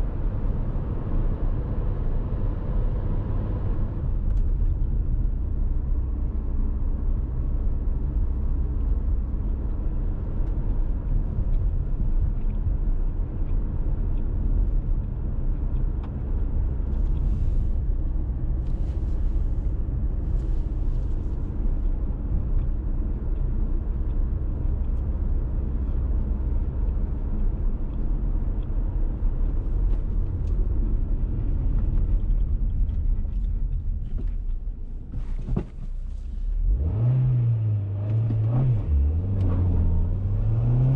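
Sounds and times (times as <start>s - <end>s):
car engine running: 0.0s - 40.9s
road noise: 0.0s - 40.9s.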